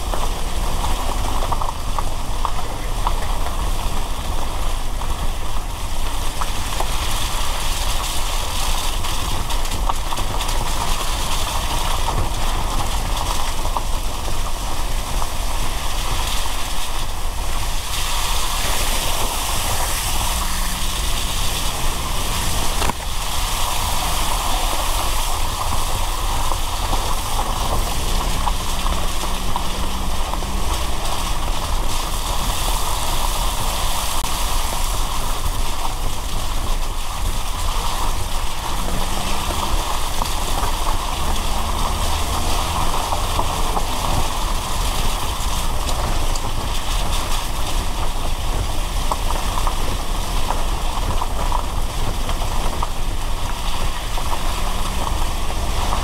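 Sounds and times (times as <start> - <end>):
faint car engine: 0.0 - 56.0
falling rain: 0.0 - 56.0
low constant rumble: 0.0 - 56.0
tyres hissing on wet road: 0.0 - 56.0.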